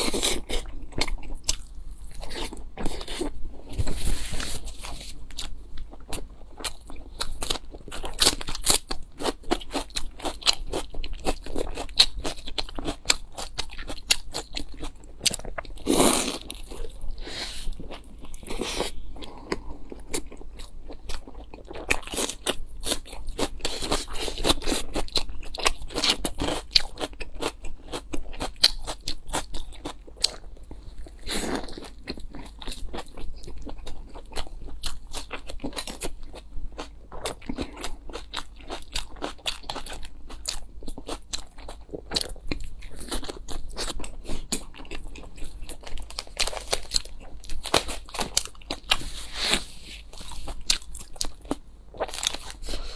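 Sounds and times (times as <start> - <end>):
crunchy chewing of food: 0.0 - 52.9.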